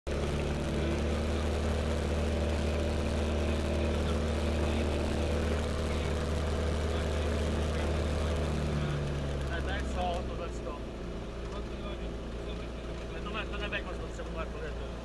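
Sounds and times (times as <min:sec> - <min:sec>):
propeller engine droning: 0:00.1 - 0:15.0.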